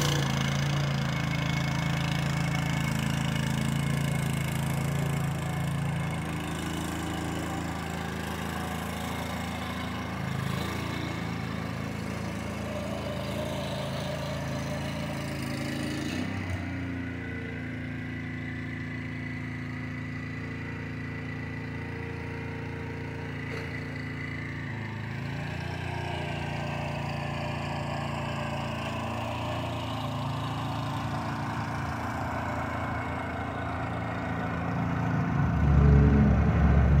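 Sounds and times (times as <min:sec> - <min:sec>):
garden tiller engine running: 0:00.0 - 0:37.0.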